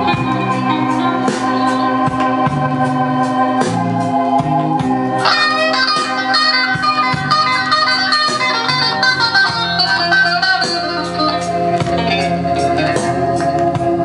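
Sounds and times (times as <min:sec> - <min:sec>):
vinyl record music through speakers: 0:00.0 - 0:14.0.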